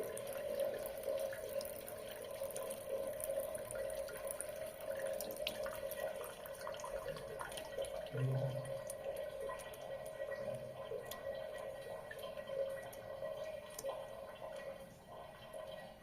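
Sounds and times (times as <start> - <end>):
tap running in thin stream: 0.0 - 16.0.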